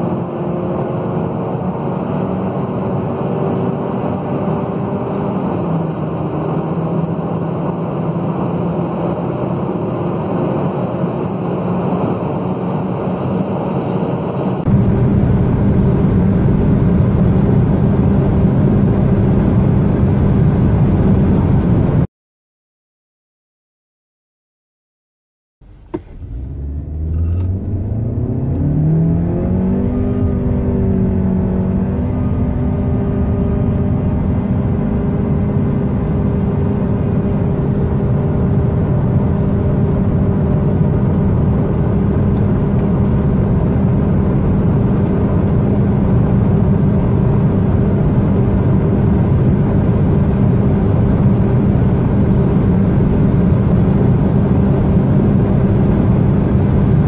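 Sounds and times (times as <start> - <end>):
car engine accelerating at full throttle: 0.0 - 22.0, 25.6 - 57.0.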